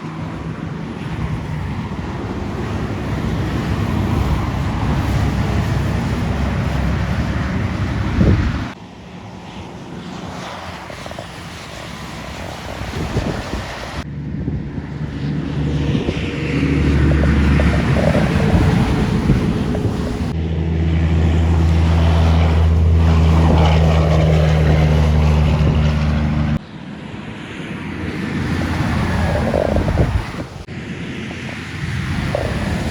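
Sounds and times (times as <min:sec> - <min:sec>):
trucks driving past: 0:00.0 - 0:26.6, 0:27.3 - 0:32.9.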